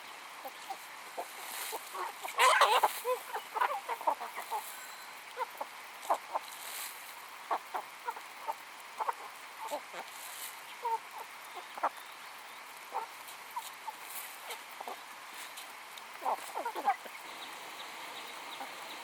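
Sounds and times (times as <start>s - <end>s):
chickens clucking: 0.0s - 6.6s, 7.3s - 19.0s.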